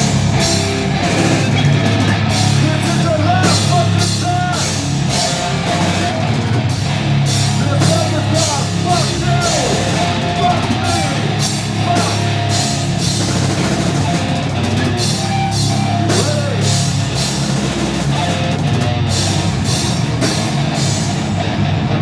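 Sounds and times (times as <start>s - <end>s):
bass guitar low notes: 0.0s - 22.0s
distorted electric guitars: 0.0s - 22.0s
drum kit with cymbal hits: 0.0s - 22.0s
sliding guitar notes: 0.0s - 22.0s.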